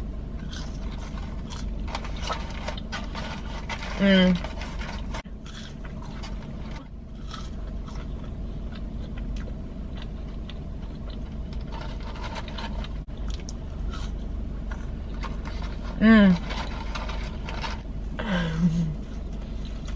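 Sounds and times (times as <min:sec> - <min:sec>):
person chewing crunchy food: 0:00.4 - 0:18.1, 0:18.9 - 0:19.9.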